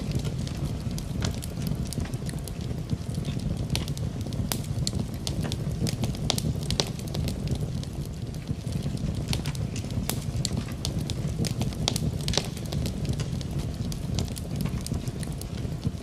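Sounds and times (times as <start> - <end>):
fire pops and snaps: 0.0 - 16.0
rain: 0.0 - 16.0
wood fire crackling: 0.0 - 16.0.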